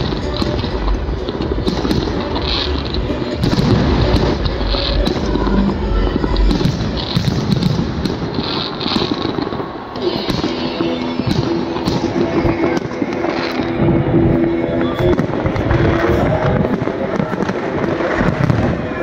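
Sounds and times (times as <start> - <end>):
fireworks booming: 0.0 - 19.0
fireworks cracking and crackling: 0.0 - 19.0.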